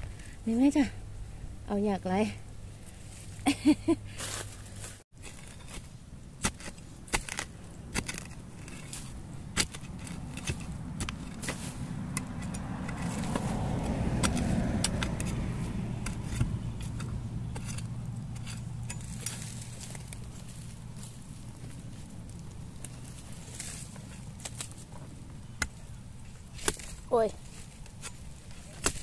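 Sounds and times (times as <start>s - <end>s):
spade scraping into dry soil: 4.1s - 29.0s.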